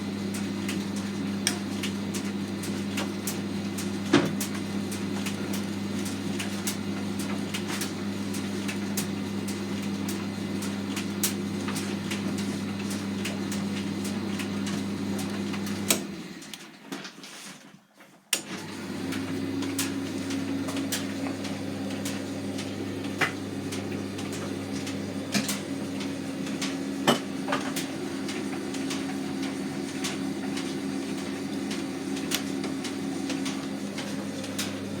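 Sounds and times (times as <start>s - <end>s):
tumble dryer humming: 0.0s - 16.7s, 18.4s - 35.0s.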